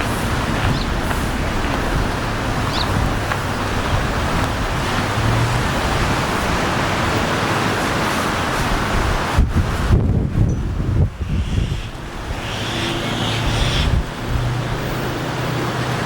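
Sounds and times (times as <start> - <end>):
steady rushing outdoor noise: 0.0 - 16.0
wind buffeting microphone: 0.0 - 16.0.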